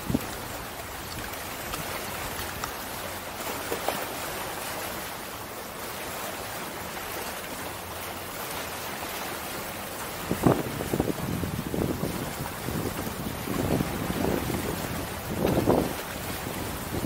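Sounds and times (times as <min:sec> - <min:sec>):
waves washing against rocks: 0:00.0 - 0:17.0.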